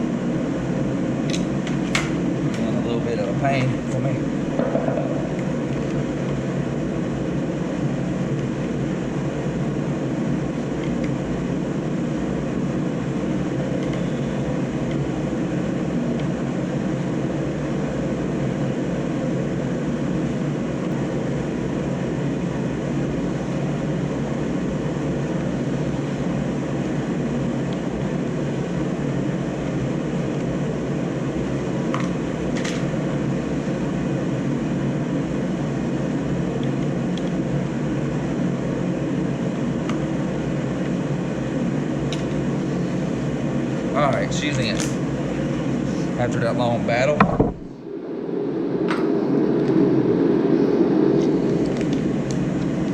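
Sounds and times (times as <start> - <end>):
heater fan running: 0.0 - 52.9.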